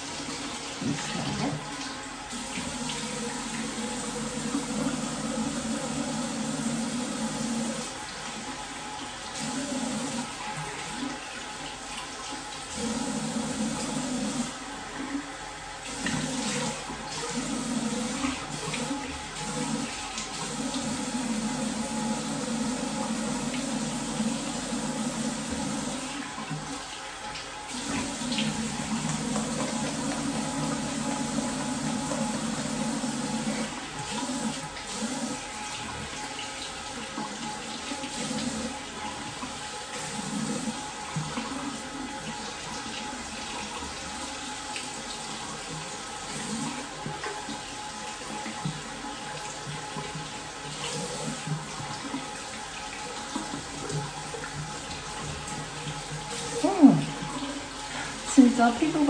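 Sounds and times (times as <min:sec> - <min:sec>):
tap water running into sink: 0:00.0 - 0:59.0.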